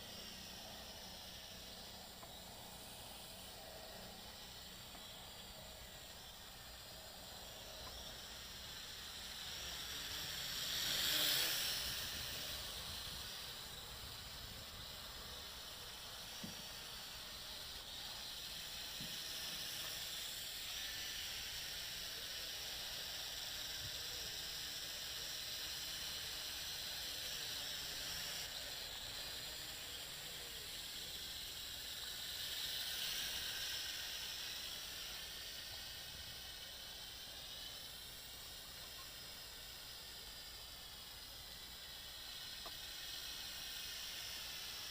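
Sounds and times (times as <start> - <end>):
toy quadcopter propellers whirring: 0.0 - 44.9.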